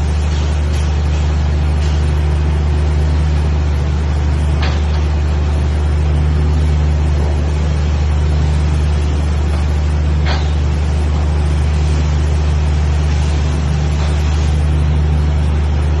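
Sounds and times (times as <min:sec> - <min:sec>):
welding hiss: 0:00.0 - 0:16.0
welding machine humming: 0:00.0 - 0:16.0.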